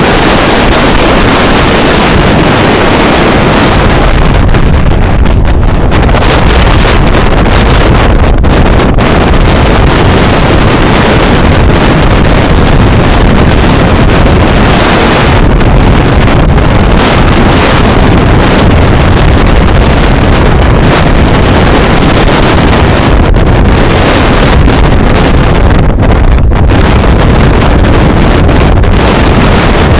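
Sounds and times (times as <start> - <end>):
strong wind on microphone: 0.0 - 29.9.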